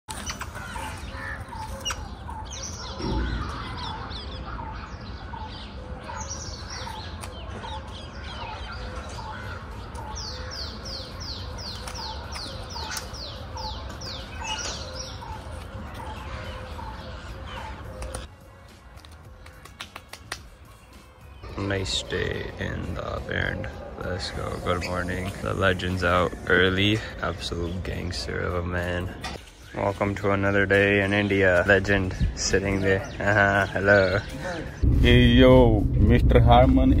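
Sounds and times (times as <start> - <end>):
birds calling: 0.1 - 37.0.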